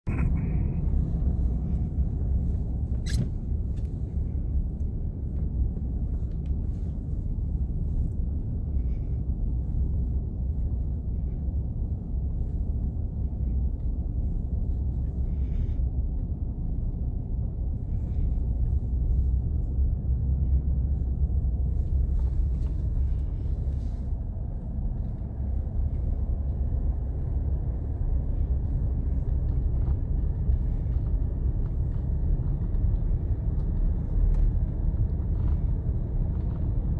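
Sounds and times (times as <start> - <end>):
vehicle engine and tyre rumble: 0.0 - 36.9.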